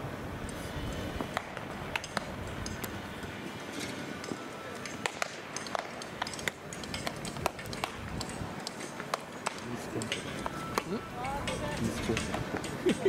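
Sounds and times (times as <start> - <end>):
murmur of distant voices: 2.5 - 13.0.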